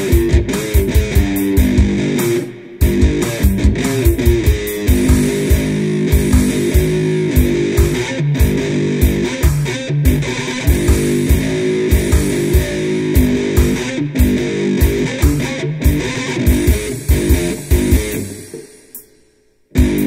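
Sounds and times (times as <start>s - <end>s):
electric one-string guitar riff: 0.0s - 18.7s, 19.8s - 20.0s.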